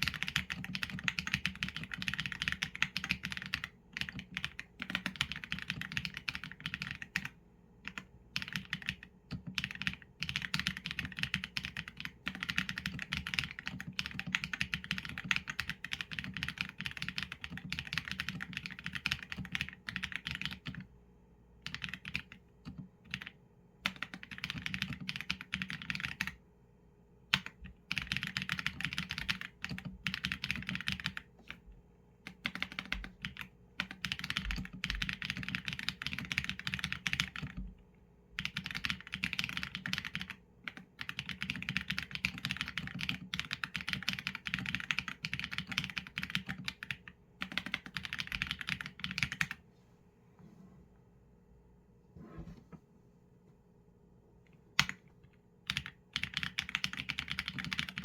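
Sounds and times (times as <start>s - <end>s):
mechanical keyboard typing: 0.0s - 20.9s, 21.6s - 26.4s, 27.3s - 31.6s, 32.2s - 37.7s, 38.4s - 49.6s, 54.8s - 55.0s, 55.7s - 58.0s.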